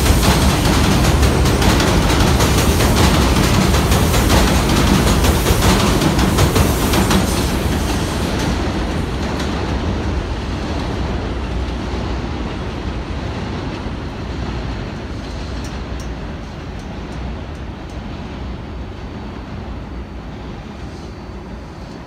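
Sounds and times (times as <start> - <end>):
subway train wheels clacking: 0.0 - 22.0
train rumble: 0.0 - 22.0.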